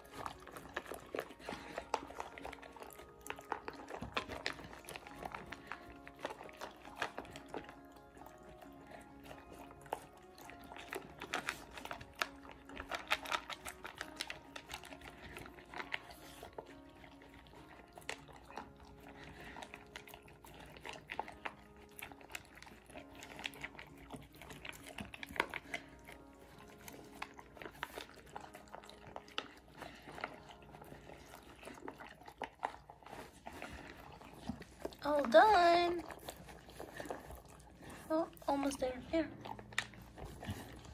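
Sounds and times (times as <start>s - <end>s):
puppies crunching kibble: 0.0s - 40.9s
puppy lapping: 0.0s - 40.9s.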